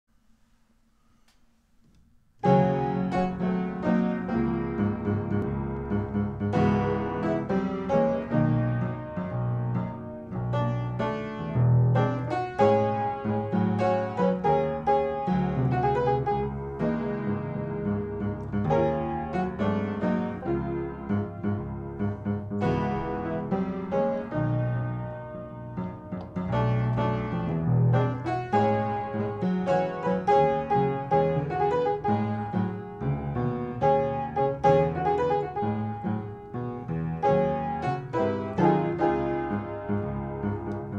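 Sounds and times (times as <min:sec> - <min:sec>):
piano playing jazz: 0:02.4 - 0:40.9.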